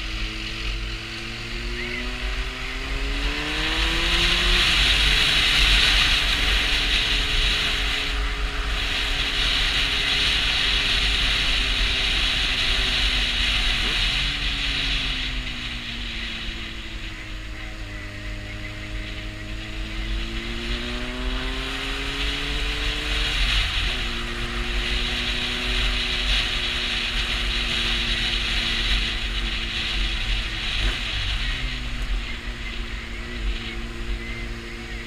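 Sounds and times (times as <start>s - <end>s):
motorcycle engine revving: 0.0s - 35.0s
wind noise on microphone: 0.0s - 35.0s.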